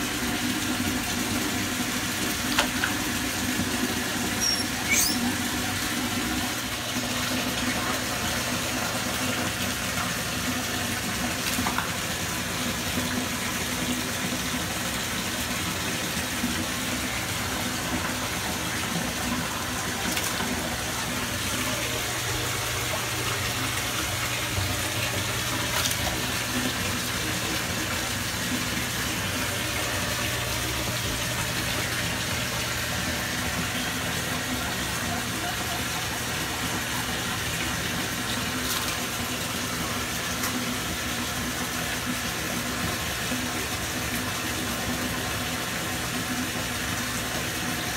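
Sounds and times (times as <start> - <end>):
tap water running into bathtub: 0.0 - 47.9.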